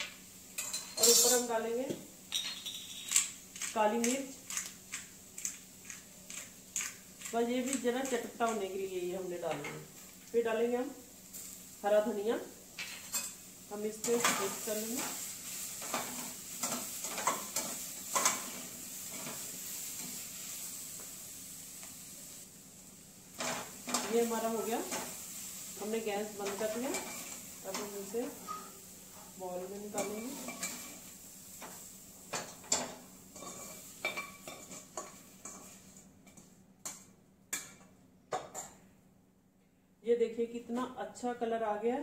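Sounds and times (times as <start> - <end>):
food sizzling in pan: 0.0 - 37.8.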